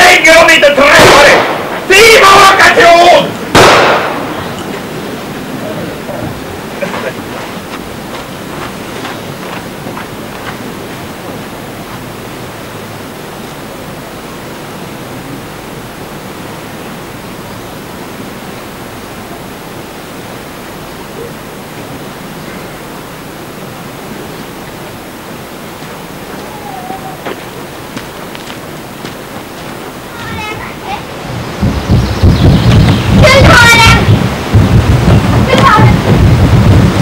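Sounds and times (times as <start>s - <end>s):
river rapids rushing: 0.0s - 37.0s.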